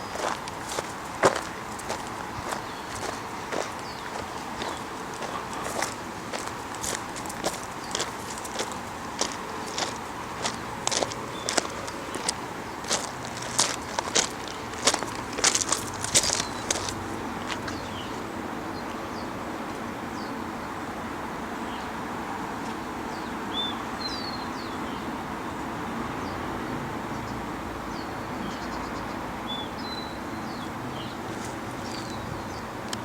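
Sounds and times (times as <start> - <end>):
small birds chirping: 0.0 - 19.4, 23.1 - 26.4, 27.1 - 33.0
steady background hiss: 0.0 - 33.0.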